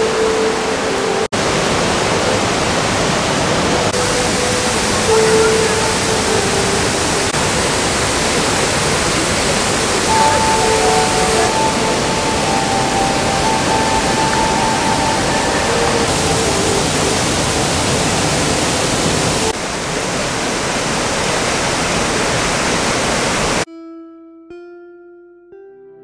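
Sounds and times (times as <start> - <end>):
waterfall rushing: 0.0 - 23.7.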